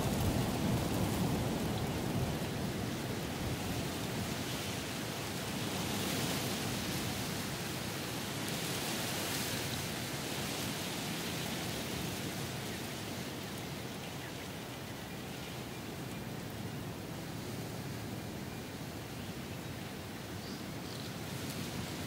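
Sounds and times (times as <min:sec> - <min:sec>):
strong wind through trees: 0:00.0 - 0:22.0.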